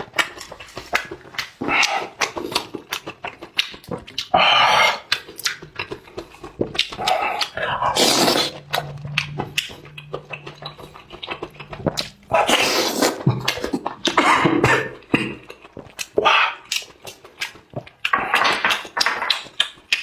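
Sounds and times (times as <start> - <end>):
wet chewing and lip-smacking: 0.0 - 20.0
mushrooms being slurped: 0.5 - 17.3.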